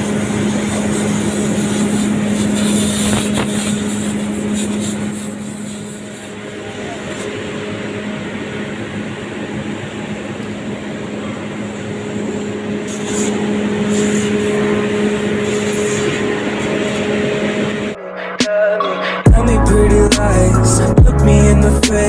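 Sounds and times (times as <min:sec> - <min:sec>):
air compressor humming: 0:00.0 - 0:18.0, 0:19.3 - 0:22.0.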